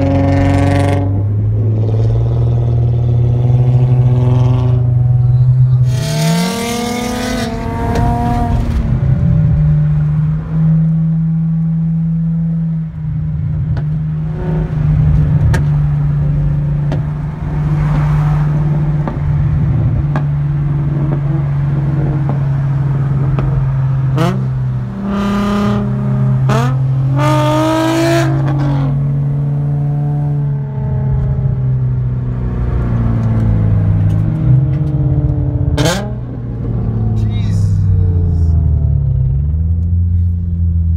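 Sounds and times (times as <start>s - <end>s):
car engine revving: 0.0s - 40.9s
car exhaust drone: 0.0s - 40.9s.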